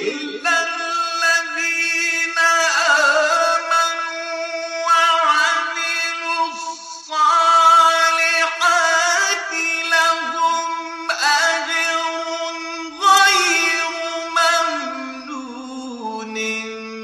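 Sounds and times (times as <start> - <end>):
melodic quran recitation: 0.0 - 17.0.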